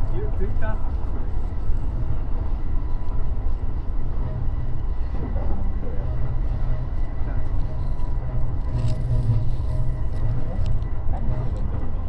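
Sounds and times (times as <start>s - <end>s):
faint motor whine: 0.0s - 12.0s
train wheels rumbling on rails: 0.0s - 12.0s.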